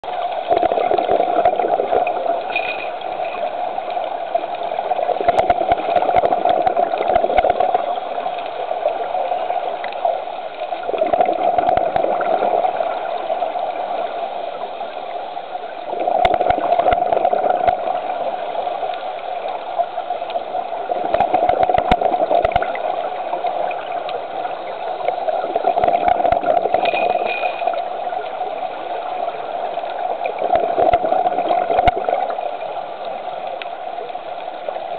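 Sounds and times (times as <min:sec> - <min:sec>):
exhaled bubbles gurgling: 0:00.0 - 0:34.9.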